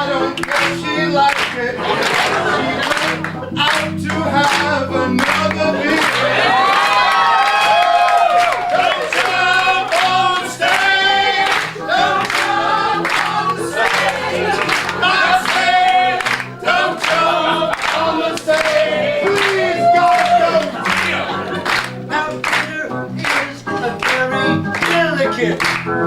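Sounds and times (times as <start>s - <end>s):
group singing gospel song: 0.0s - 25.6s
piano accompaniment: 0.0s - 26.0s.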